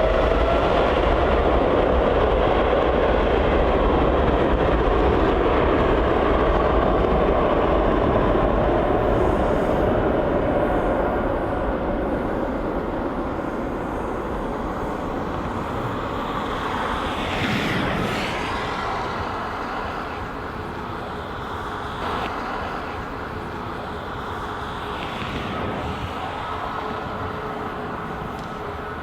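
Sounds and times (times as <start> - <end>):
jet engines at takeoff power: 0.0 - 29.0.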